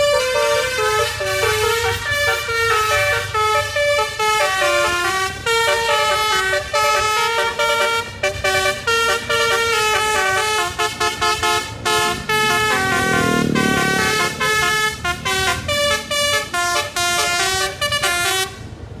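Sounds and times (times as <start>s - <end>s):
bus musical horn melody: 0.0s - 18.7s.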